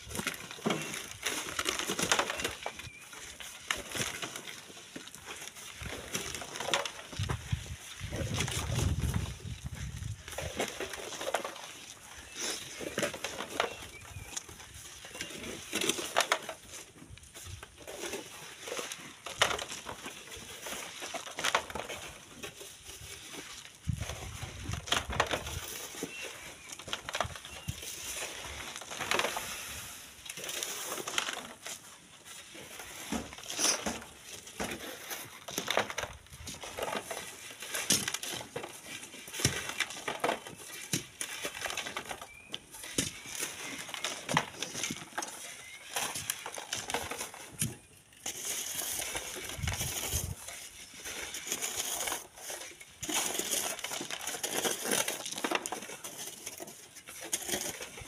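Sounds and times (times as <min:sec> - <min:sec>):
digging sand and stones by hand: 0:00.0 - 0:58.0.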